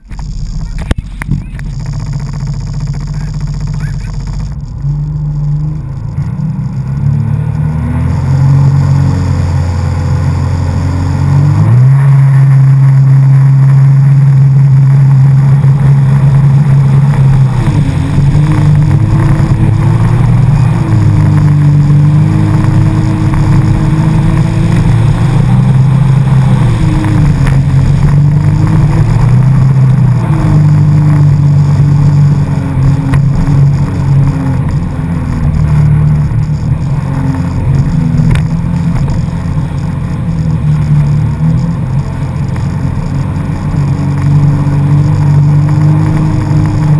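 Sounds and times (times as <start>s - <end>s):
jet ski engine revving: 0.0s - 46.9s.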